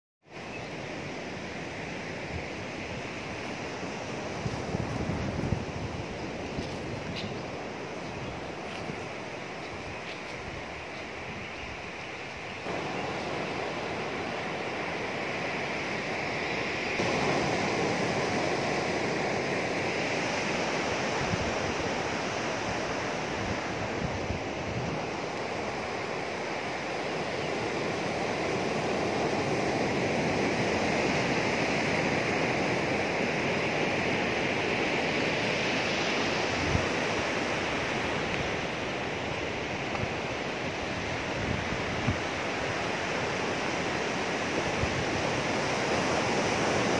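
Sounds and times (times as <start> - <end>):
surf washing on a beach: 0.3 - 46.9.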